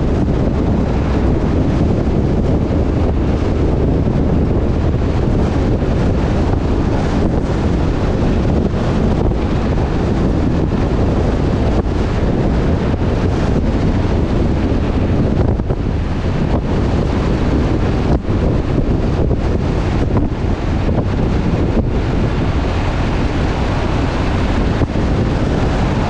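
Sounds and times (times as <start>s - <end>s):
low rumble: 0.0s - 26.0s
wind buffeting microphone: 0.0s - 26.0s.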